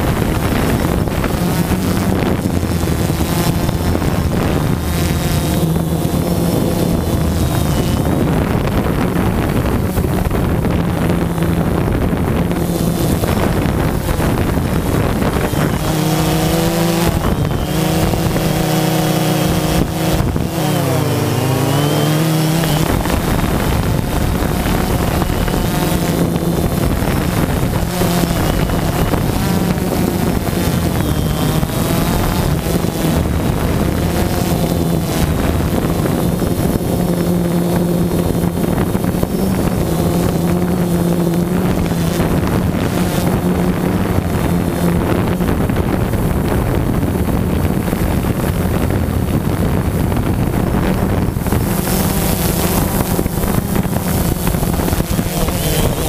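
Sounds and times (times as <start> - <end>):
drone motors buzzing: 0.0 - 56.0
wind noise on microphone: 0.0 - 56.0.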